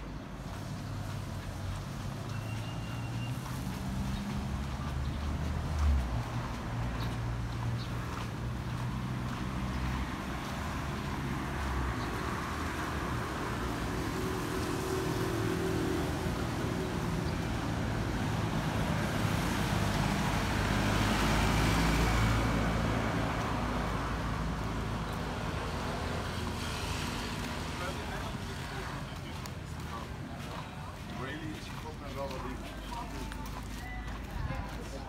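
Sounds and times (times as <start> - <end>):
road traffic: 0.0 - 35.0.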